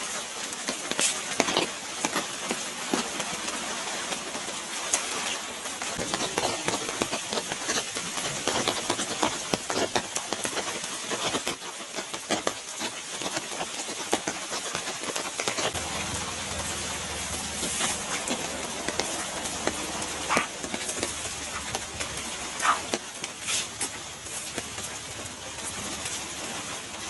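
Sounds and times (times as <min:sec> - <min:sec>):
rain falling: 0:00.0 - 0:27.0.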